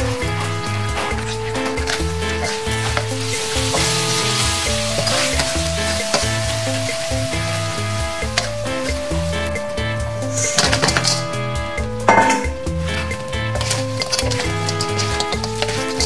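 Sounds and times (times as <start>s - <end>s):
garlic sizzling in hot oil: 0.0s - 12.2s, 12.8s - 16.0s
wooden spatula scraping wok: 0.1s - 11.4s, 12.1s - 16.0s.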